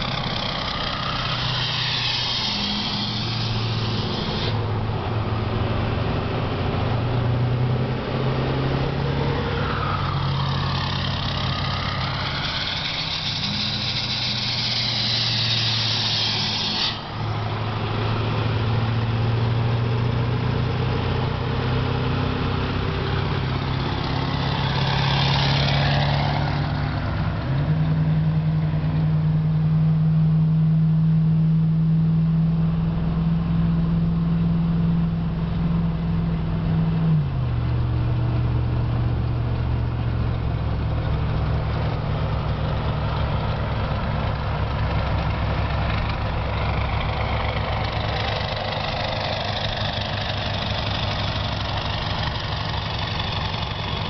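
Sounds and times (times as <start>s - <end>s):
truck engine and exhaust drone: 0.0s - 54.0s.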